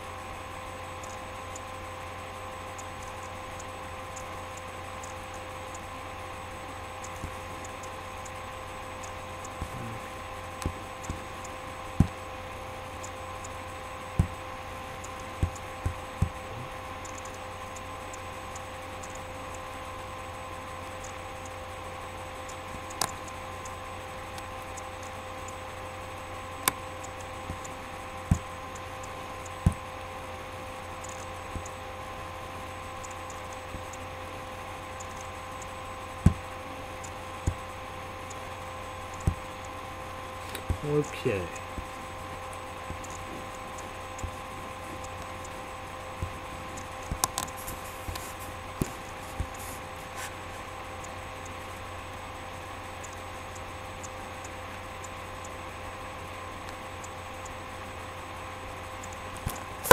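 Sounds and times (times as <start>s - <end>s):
steady electrical hum: 0.0s - 59.9s.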